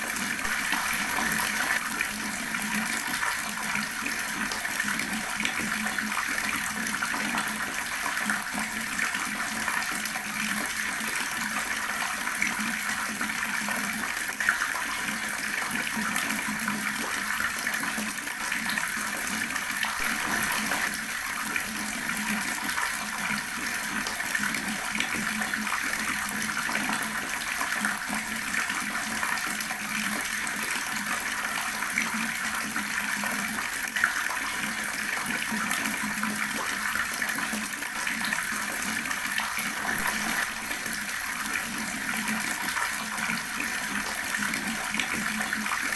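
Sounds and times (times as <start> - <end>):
water tap running: 0.0 - 30.3, 35.3 - 45.9.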